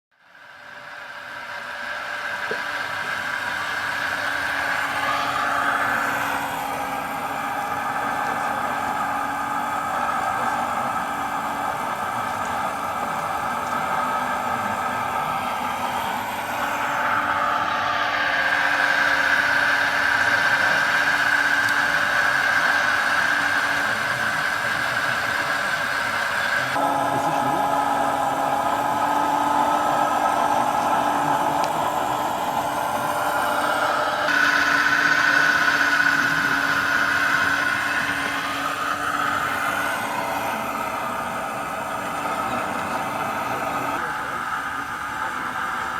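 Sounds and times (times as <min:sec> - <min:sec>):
mechanical whine of model machines: 0:00.2 - 0:45.9.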